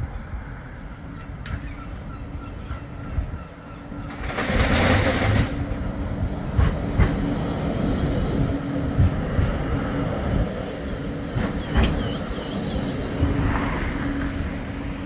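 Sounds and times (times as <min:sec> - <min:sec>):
tram humming: 0:00.0 - 0:15.0.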